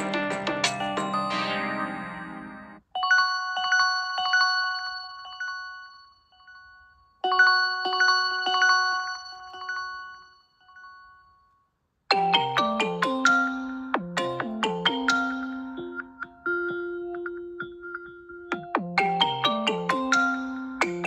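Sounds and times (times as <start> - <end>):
bell-like ringtone chime: 0.6 - 21.0.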